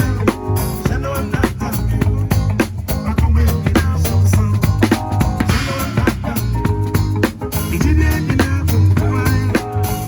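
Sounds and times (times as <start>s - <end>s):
live band playing upbeat groove: 0.0s - 10.0s.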